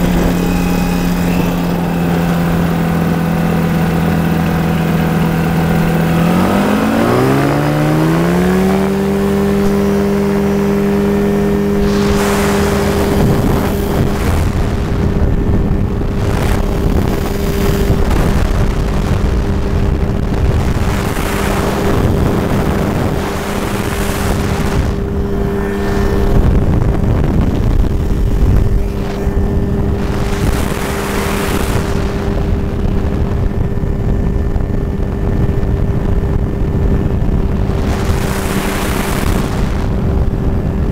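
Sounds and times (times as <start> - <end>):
aircraft engine drone: 0.0 - 40.9
wind buffeting microphone: 0.0 - 40.9.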